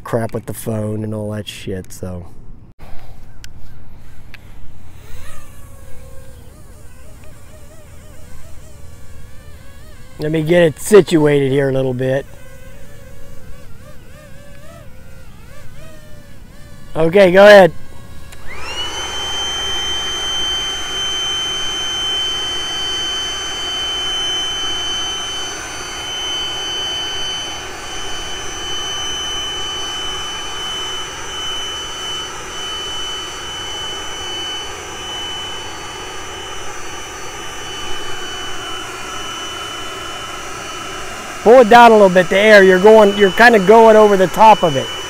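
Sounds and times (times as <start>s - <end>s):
electric leaf blower whining: 3.4s - 45.0s.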